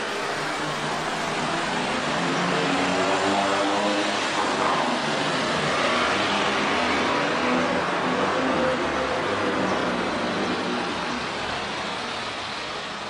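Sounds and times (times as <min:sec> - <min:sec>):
city road traffic: 0:00.0 - 0:13.0.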